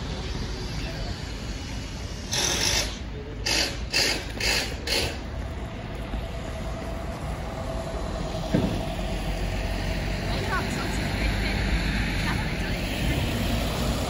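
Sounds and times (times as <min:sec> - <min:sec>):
faint engine hum: 0:00.0 - 0:14.0
traffic noise: 0:00.0 - 0:14.0.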